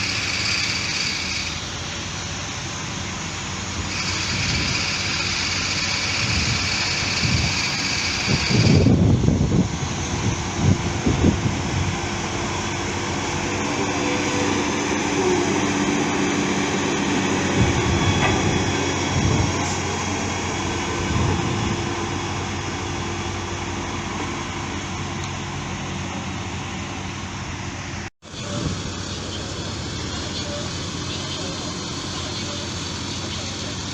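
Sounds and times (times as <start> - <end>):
heavy diesel machinery running: 0.0 - 33.9.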